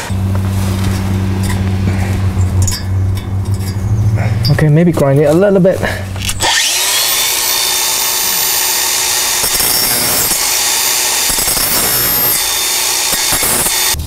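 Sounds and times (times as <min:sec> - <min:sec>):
angle grinder grinding metal: 0:00.0 - 0:14.0.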